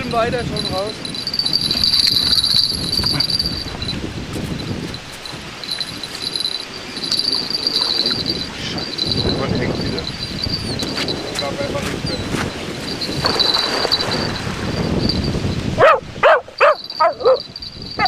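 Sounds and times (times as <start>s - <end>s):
insects trilling: 0.5s - 4.0s, 4.6s - 11.6s, 12.2s - 15.7s, 16.6s - 18.0s.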